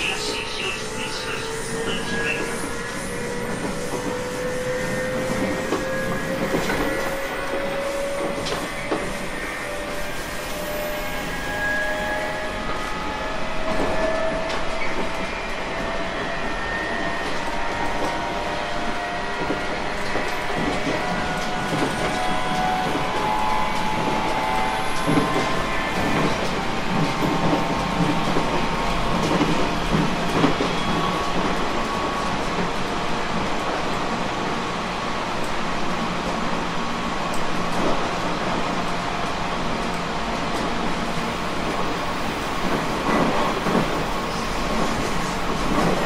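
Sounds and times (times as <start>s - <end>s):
train rolling noise: 0.0s - 46.0s.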